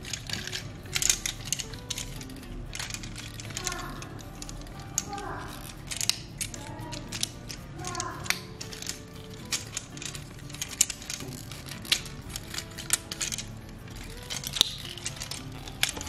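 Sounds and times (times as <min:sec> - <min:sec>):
plastic toy parts clicking: 0:00.0 - 0:16.0.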